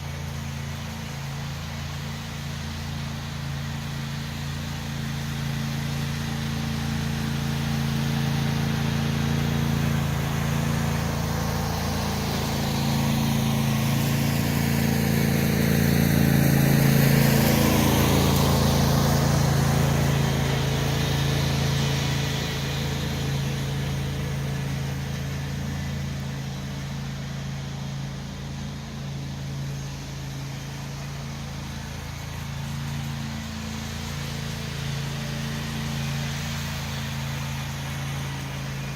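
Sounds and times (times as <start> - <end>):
tractor engine under load: 0.0 - 38.9.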